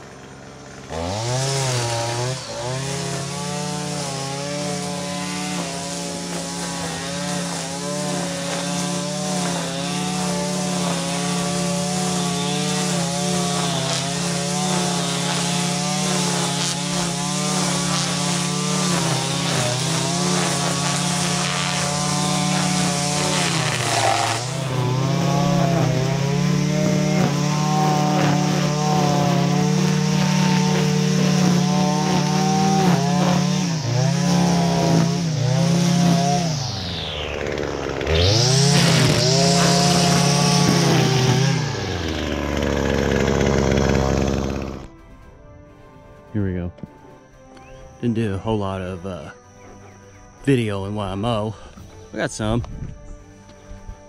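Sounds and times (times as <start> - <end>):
small petrol engine revving: 0.0 - 45.0.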